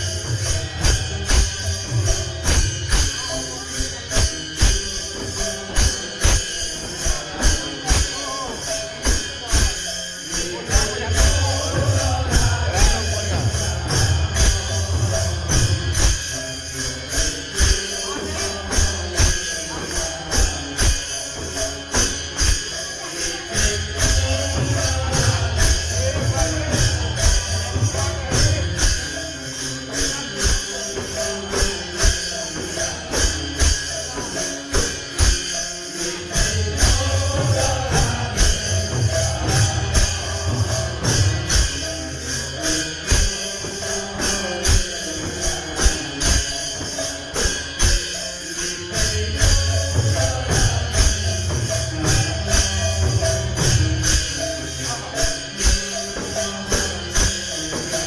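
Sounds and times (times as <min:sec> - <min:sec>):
jingling metal strokes: 0:00.0 - 0:58.0.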